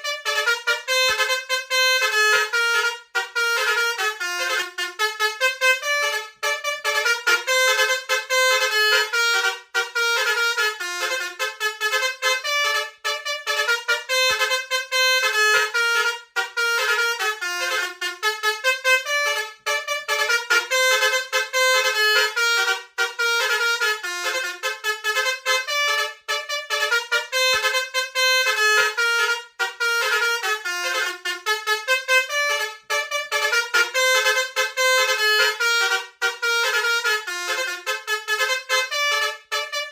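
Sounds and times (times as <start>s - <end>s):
multi-tone bus horn melody: 0.0s - 39.9s.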